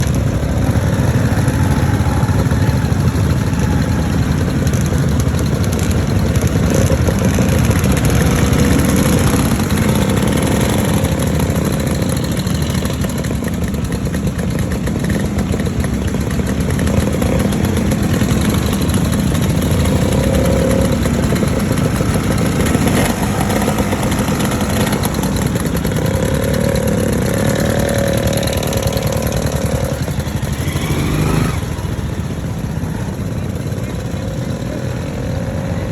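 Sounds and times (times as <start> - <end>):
motorcycle engines idling: 0.0 - 35.9.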